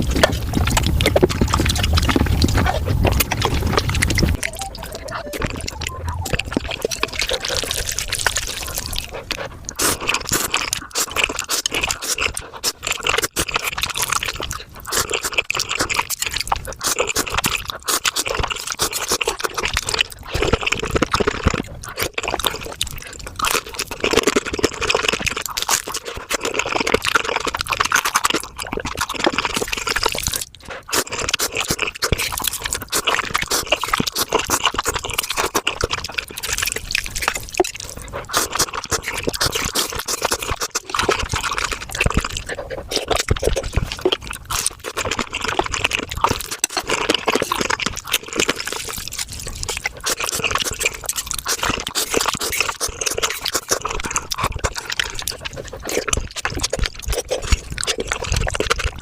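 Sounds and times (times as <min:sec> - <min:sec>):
wet slurping and chewing: 0:00.0 - 0:59.0.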